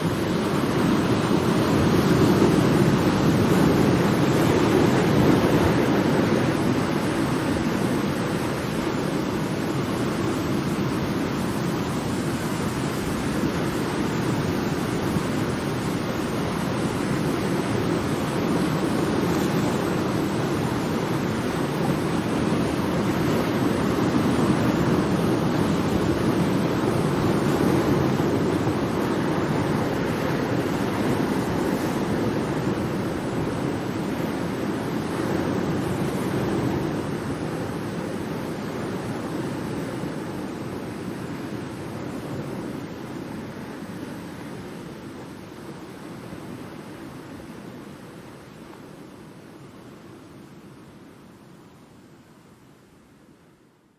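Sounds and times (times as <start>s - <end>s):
ocean waves washing: 0.0s - 52.5s.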